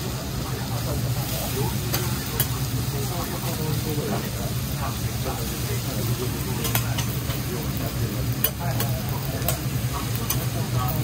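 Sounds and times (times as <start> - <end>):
food sizzling on hot plate: 0.0 - 11.0.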